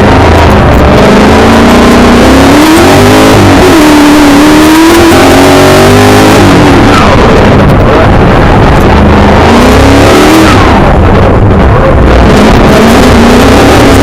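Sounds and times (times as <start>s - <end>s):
heavy rushing noise: 0.0s - 14.0s
racing car engine revving: 0.0s - 14.0s.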